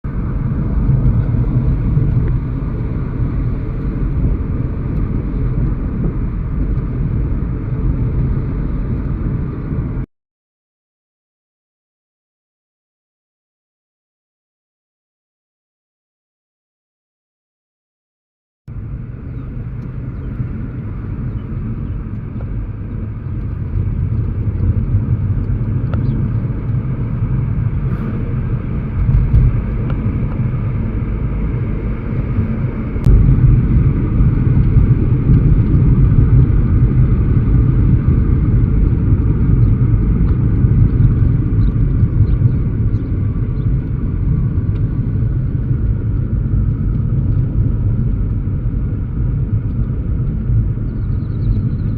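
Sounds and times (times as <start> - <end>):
motor vehicle low rumble: 0.0 - 10.1, 18.7 - 51.9.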